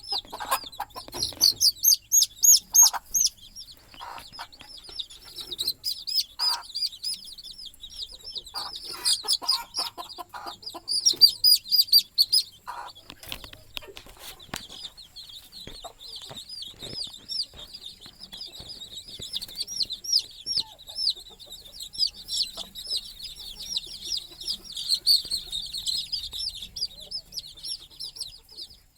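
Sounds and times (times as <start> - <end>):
baby chicks peeping: 0.0 - 28.9
hen clucking: 0.0 - 28.9.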